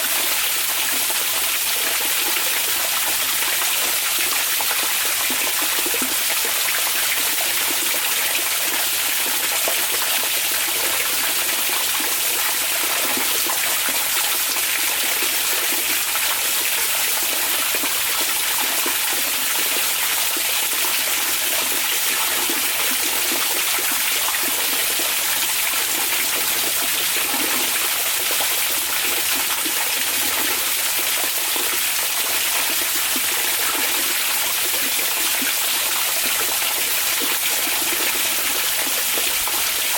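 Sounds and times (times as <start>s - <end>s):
hot spring water flowing: 0.0s - 39.9s.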